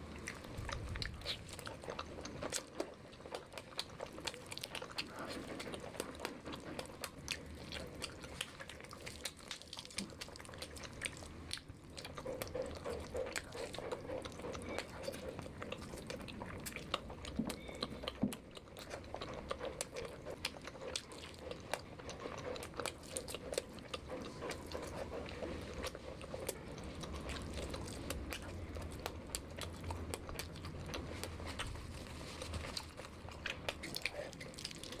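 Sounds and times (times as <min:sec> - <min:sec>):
chewing and crunching food: 0:00.0 - 0:35.0.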